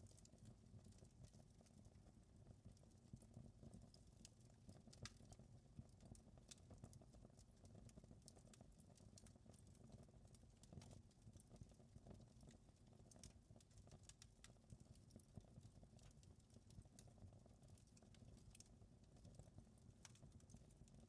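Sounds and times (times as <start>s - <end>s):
faint wood fire crackling: 0.0s - 21.0s.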